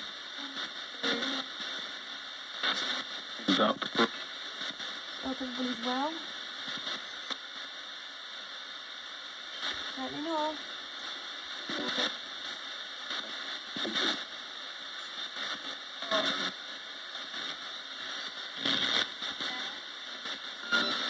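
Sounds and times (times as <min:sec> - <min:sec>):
radio static hiss: 0:00.0 - 0:21.0
garbled radio broadcast bursts: 0:00.6 - 0:07.6, 0:09.6 - 0:21.0.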